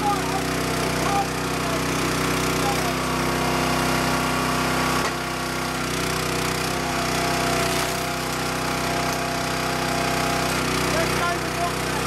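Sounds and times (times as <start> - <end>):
small gas engine running: 0.0 - 12.0.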